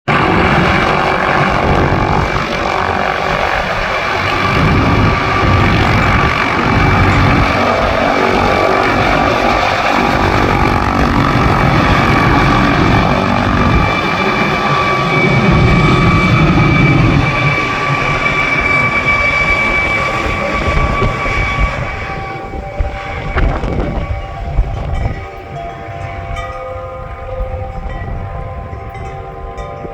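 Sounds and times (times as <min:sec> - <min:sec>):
helicopter rotor and engine: 0:00.0 - 0:29.9.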